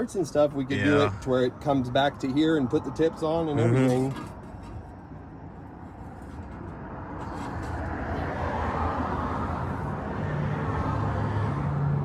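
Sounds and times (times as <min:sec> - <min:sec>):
vehicle engine and tyre rumble: 0:00.0 - 0:12.0.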